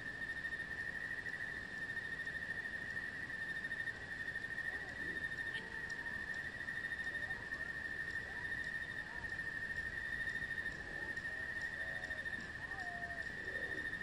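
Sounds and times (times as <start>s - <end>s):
faint gliding calls: 0.0s - 14.0s
insect trilling: 0.0s - 14.0s.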